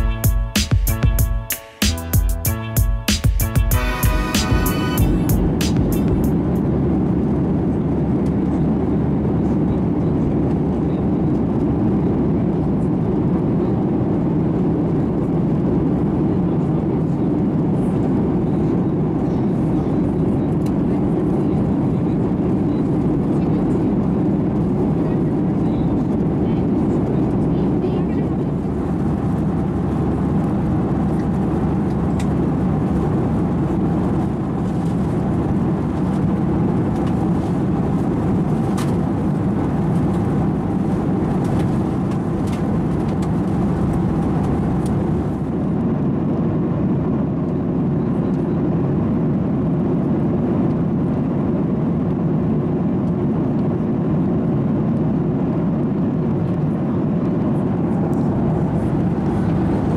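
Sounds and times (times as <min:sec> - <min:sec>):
airplane cabin airflow and engine noise: 0:03.4 - 0:59.9.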